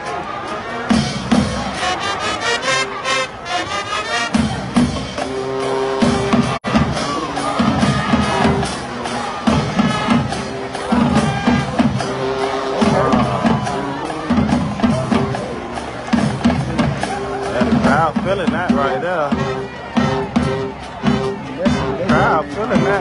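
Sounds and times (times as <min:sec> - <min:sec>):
crowd cheering: 0:00.0 - 0:23.0
held brass notes: 0:00.0 - 0:23.0
marching band playing: 0:00.0 - 0:23.0
drums beating a rhythm: 0:00.8 - 0:02.0, 0:04.2 - 0:23.0.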